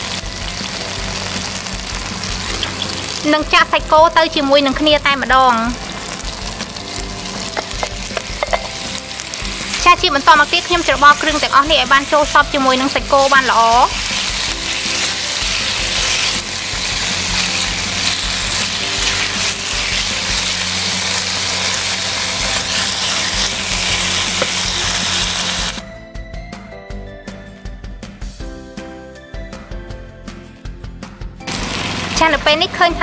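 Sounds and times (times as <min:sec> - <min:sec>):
beef sizzling in hot oil: 0:00.0 - 0:25.8, 0:31.5 - 0:32.4.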